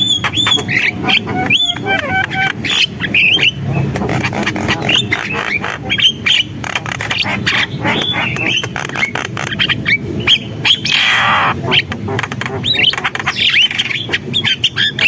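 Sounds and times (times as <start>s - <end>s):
myna bird singing: 0.0s - 15.0s.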